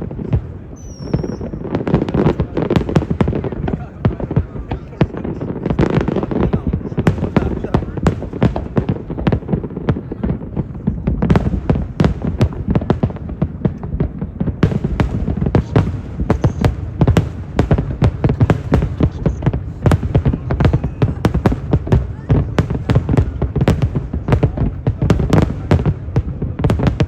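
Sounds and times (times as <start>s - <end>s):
fireworks booming and cracking: 0.0s - 27.0s.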